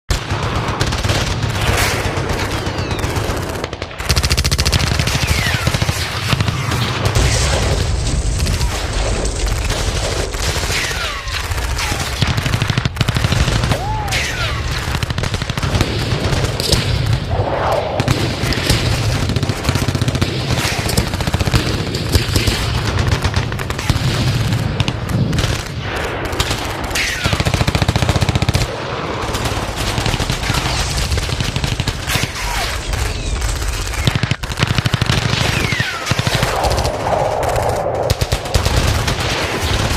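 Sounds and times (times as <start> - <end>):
automatic gunfire: 0.1 - 17.2, 18.0 - 37.0, 37.6 - 39.9.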